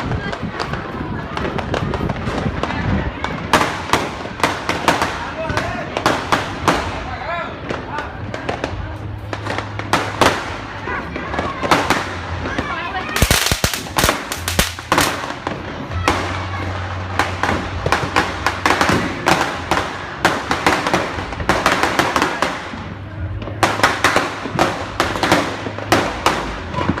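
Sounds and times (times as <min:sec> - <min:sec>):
firecrackers banging: 0:00.0 - 0:27.0.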